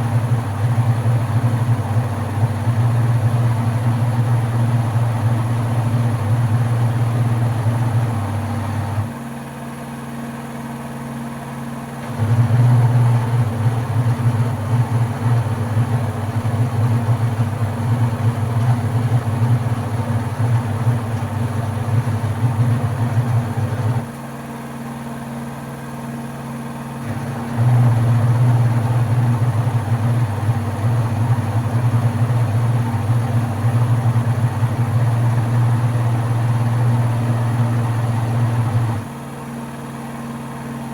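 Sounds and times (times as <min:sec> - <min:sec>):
washing machine motor humming: 0:00.0 - 0:09.2, 0:12.0 - 0:24.4, 0:27.0 - 0:40.9.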